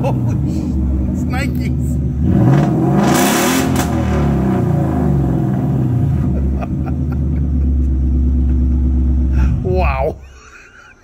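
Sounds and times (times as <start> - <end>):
loud car engine idling: 0.0 - 3.0, 3.6 - 10.7.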